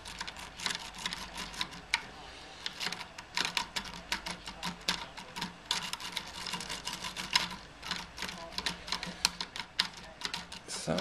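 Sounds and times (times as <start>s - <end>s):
lock pick raking a lock: 0.0s - 11.0s.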